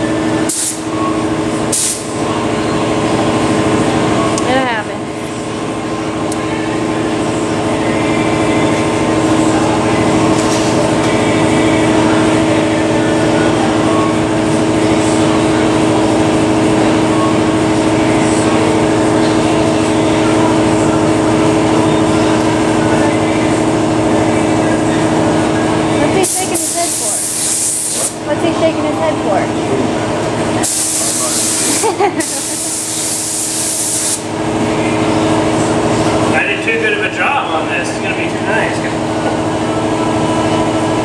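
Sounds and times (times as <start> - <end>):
air compressor motor droning: 0.0 - 41.0.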